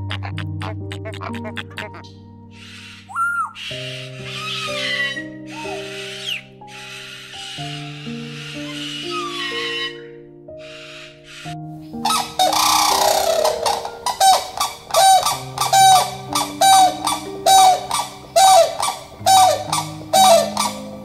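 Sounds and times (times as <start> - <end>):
animal calling: 0.0 - 21.0
soft piano music: 0.0 - 21.0.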